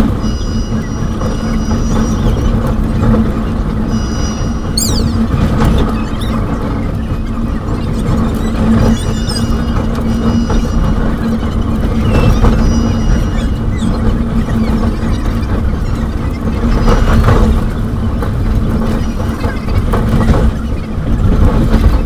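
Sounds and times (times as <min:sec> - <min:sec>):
train rumble on track: 0:00.0 - 0:22.0.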